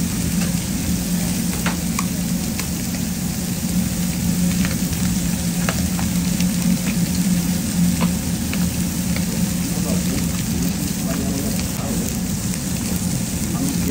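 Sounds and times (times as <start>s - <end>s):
meat sizzling on a griddle: 0.0s - 13.9s.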